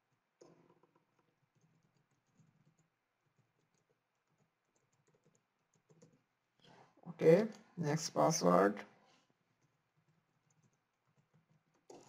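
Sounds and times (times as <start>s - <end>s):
faint keyboard typing: 0.0s - 7.8s, 9.1s - 12.0s.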